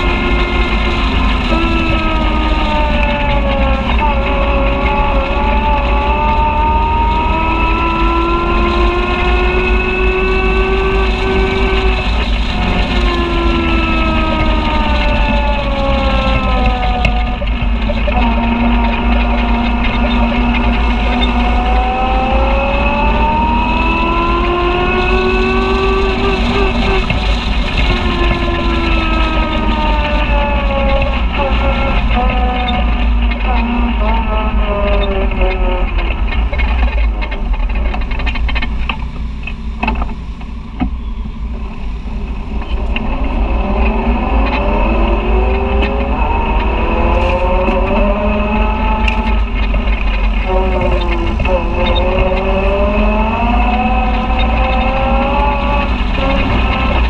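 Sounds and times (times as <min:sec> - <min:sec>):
low engine rumble: 0:00.0 - 0:57.0
utv engine whine: 0:00.0 - 0:57.0.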